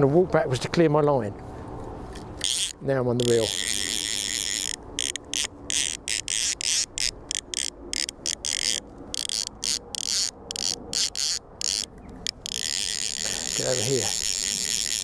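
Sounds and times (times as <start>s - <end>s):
fly reel ratchet buzzing: 2.1s - 15.0s.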